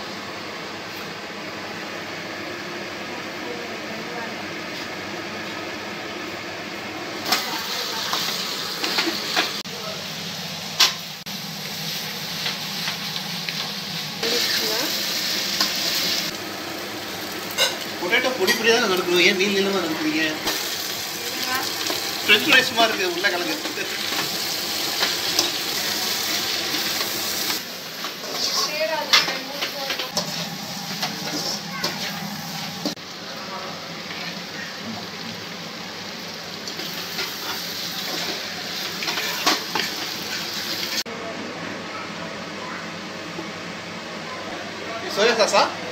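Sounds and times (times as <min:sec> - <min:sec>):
vegetables sizzling in oil: 0:00.0 - 0:41.1.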